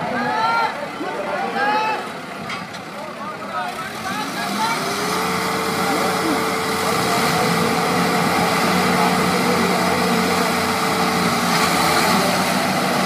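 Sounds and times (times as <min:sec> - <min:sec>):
tractor diesel engines under load: 0:00.0 - 0:13.0.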